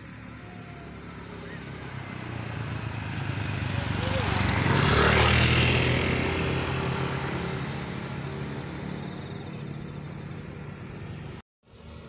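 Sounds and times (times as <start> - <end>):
small motorcycle engine passing: 0.0 - 12.0.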